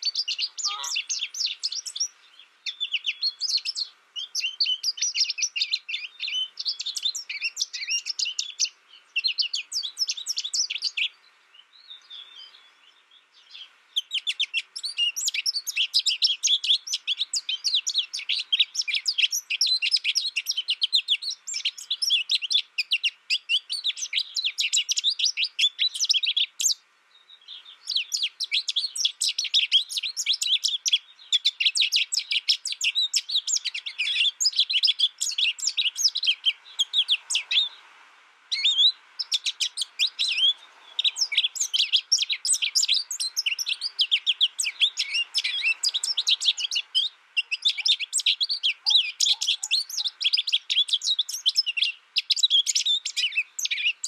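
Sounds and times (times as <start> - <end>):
finch twittering song: 0.0 - 37.9, 38.5 - 54.0.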